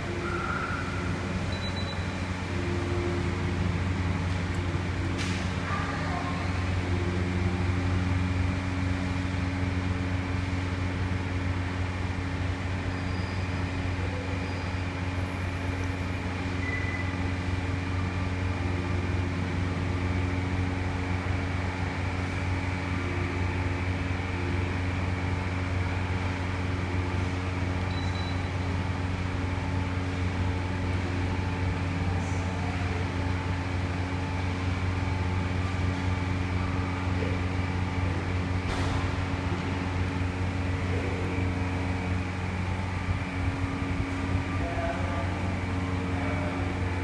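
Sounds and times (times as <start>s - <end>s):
ceiling fan humming: 0.0s - 47.0s
parking lot drone: 0.0s - 47.0s.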